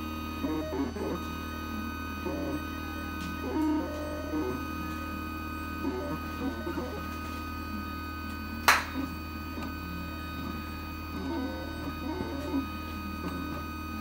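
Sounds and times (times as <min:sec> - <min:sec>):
cutting plotter motor movements: 0:00.0 - 0:14.0
steady hum: 0:00.0 - 0:14.0.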